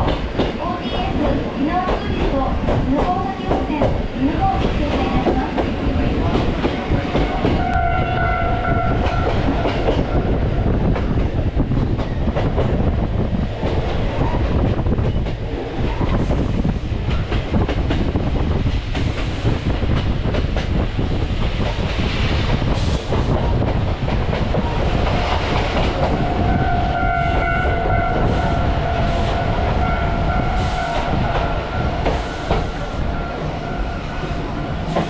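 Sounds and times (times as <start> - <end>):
train rumbling: 0.0 - 35.0.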